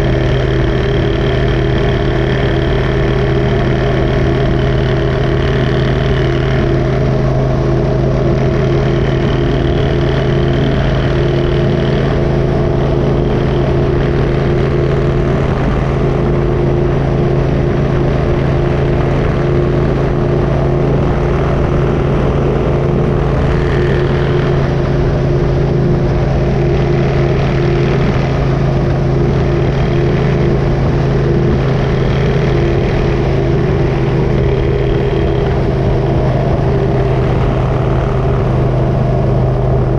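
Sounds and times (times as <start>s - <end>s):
low road rumble: 0.0s - 39.9s
motorcycle engine cruising: 0.0s - 39.9s.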